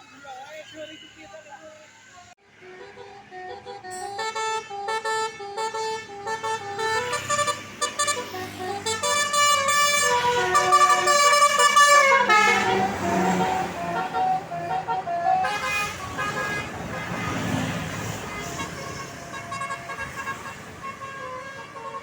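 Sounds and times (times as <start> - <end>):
multi-note bus horn tune: 2.4 - 22.0
overlapping horn tones: 2.7 - 22.0.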